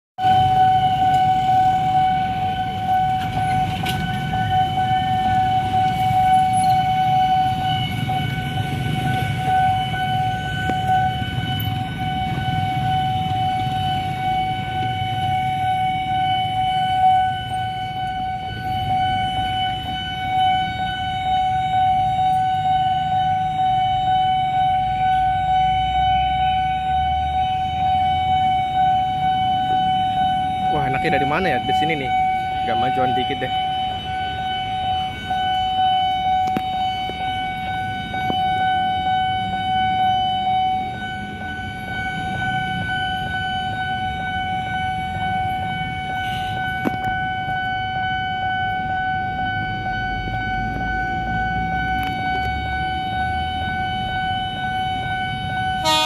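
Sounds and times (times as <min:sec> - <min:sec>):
level-crossing alarm tone: 0:00.2 - 0:56.0
road traffic rumble: 0:00.2 - 0:56.0.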